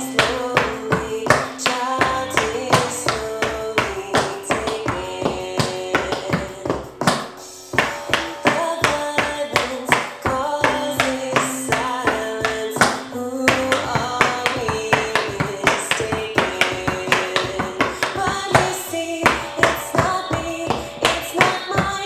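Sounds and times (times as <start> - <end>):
rock song with singing: 0.0 - 7.8, 8.4 - 22.0
tap shoes on wooden floor: 0.0 - 22.0.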